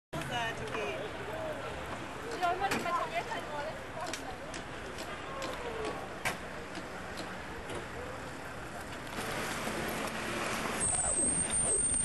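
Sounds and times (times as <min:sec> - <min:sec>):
cars passing: 0:00.2 - 0:12.0
faint voices of passers-by: 0:00.2 - 0:12.0.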